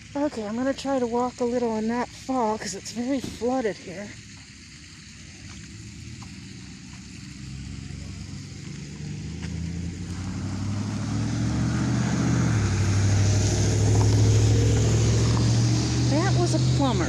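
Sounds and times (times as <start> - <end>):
vehicle engine approaching: 0.0 - 17.0.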